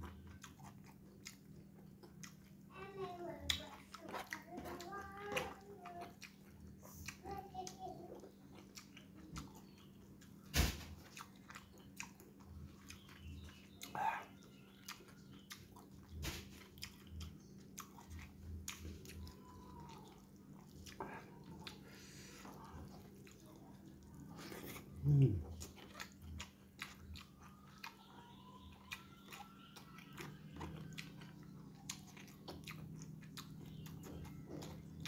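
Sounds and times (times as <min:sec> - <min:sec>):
close chewing and biting: 0:00.0 - 0:35.0.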